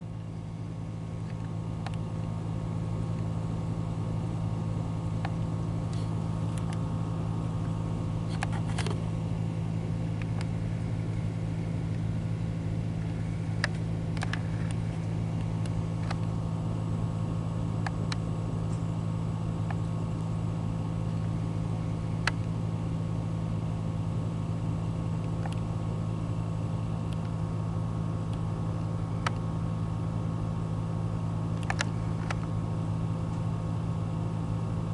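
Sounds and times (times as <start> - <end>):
truck engine running: 0.2 - 29.6.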